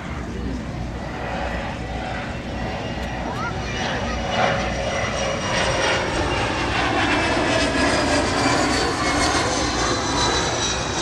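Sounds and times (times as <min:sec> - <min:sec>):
jet engine high whine: 0:00.0 - 0:11.0
jet engine roar: 0:00.0 - 0:11.0.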